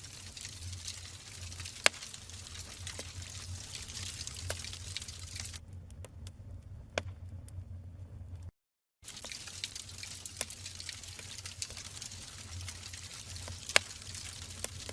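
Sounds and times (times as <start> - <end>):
fire low rumble: 0.0 - 8.5, 9.1 - 14.9
fire crackling: 0.0 - 14.9
wood popping in fire: 0.0 - 14.9.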